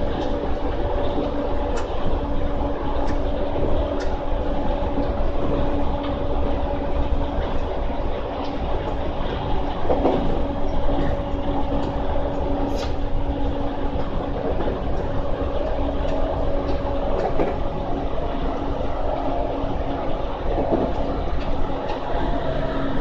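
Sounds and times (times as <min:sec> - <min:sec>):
steady low hum: 0:00.0 - 0:23.0
track clicks: 0:00.0 - 0:23.0
train wheels rumbling on rail: 0:00.0 - 0:23.0.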